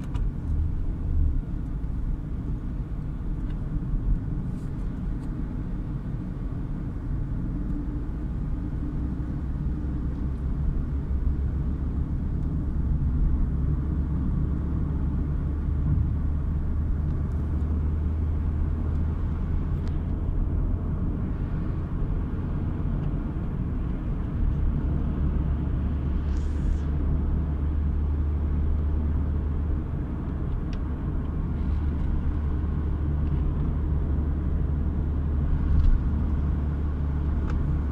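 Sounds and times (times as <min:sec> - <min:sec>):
car engine rumble: 0:00.0 - 0:37.9
tyres on the road: 0:00.0 - 0:37.9.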